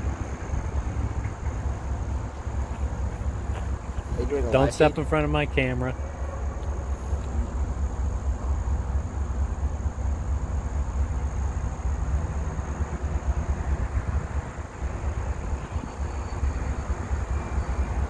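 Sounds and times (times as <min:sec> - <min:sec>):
distant diesel locomotive rumble: 0:00.0 - 0:18.0.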